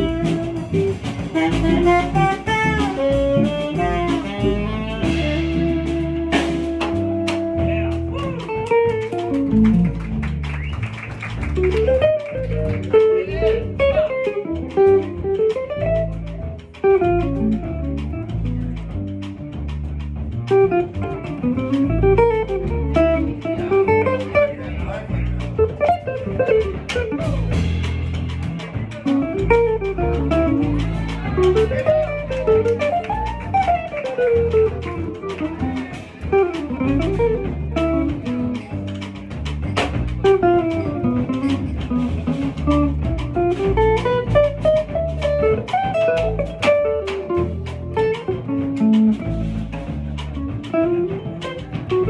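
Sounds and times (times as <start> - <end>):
bass line: 0.0 - 52.0
jazz-blues guitar: 0.0 - 52.0.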